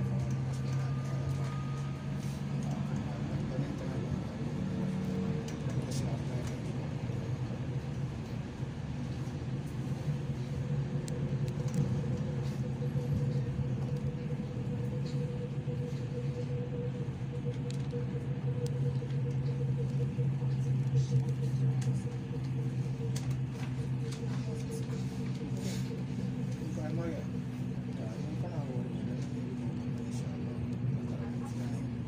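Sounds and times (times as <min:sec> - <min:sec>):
train drive hum: 0:00.0 - 0:32.0
wheels rumbling on rails: 0:00.0 - 0:32.0.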